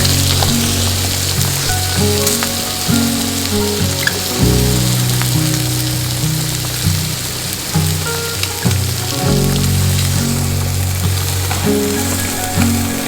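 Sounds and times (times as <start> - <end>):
meat sizzling on grill: 0.0 - 13.0
music with low held chords: 0.0 - 13.0
rain falling: 0.0 - 13.0.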